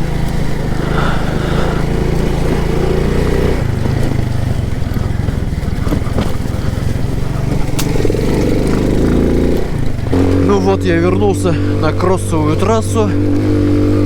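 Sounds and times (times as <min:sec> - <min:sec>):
moped engine running: 0:00.0 - 0:14.0.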